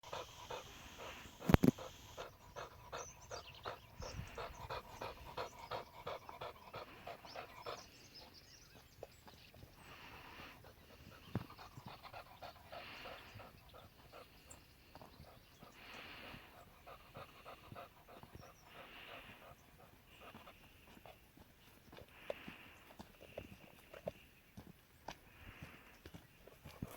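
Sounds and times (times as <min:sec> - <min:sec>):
dog panting: 0:00.0 - 0:24.2, 0:25.6 - 0:26.9.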